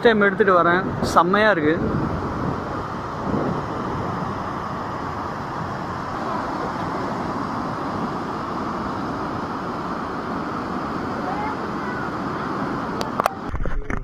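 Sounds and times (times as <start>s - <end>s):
waterfall roaring: 0.0s - 13.6s.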